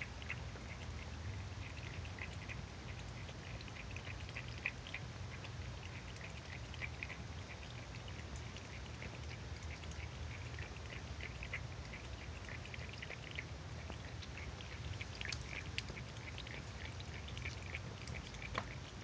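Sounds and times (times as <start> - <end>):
cat lapping water: 0.0 - 19.0.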